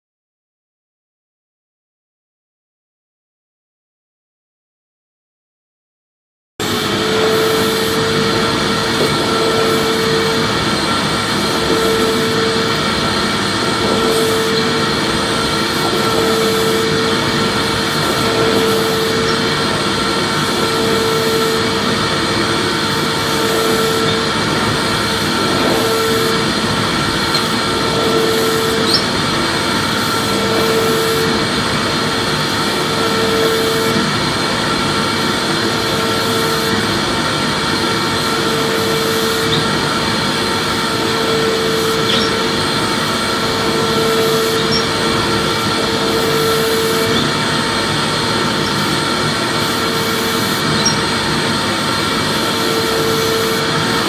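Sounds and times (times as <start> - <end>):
vacuum cleaner running: 6.6 - 54.0.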